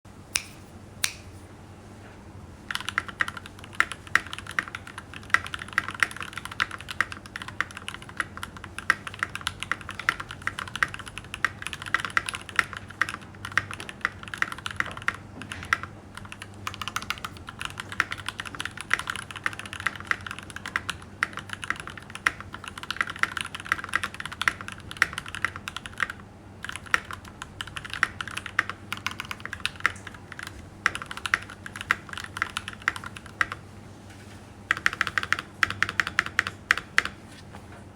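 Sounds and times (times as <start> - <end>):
mechanical keyboard typing: 2.7 - 33.6, 34.7 - 37.2.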